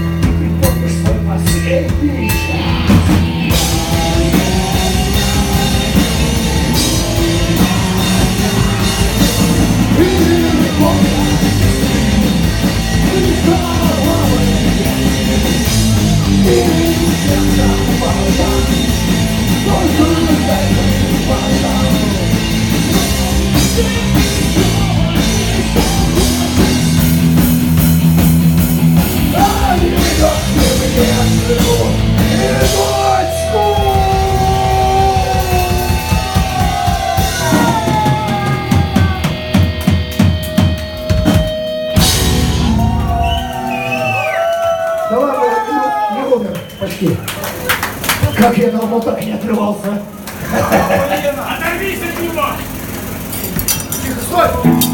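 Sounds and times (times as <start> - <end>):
punk rock song with singing: 0.0 - 45.2
driving drum kit: 0.0 - 54.9.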